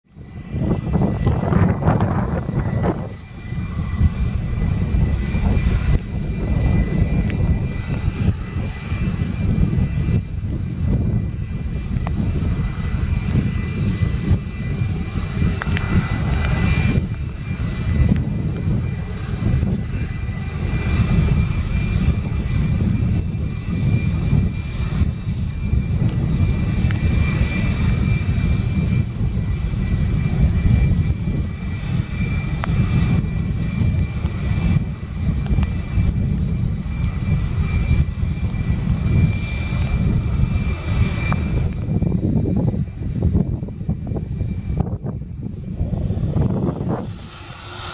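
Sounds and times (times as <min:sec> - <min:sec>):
jet engines roaring with whine: 0:00.0 - 0:47.9.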